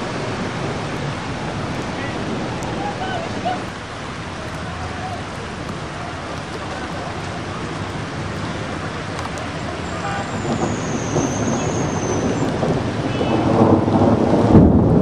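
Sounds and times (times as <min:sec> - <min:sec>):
heavy rain pouring: 0:00.0 - 0:15.0
low rumble of thunder: 0:00.0 - 0:15.0.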